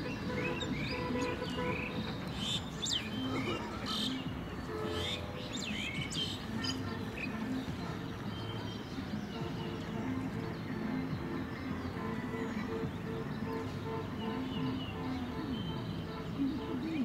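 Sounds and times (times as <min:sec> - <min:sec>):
birds chirping and whistling: 0:00.0 - 0:17.0
soft background music: 0:00.0 - 0:17.0.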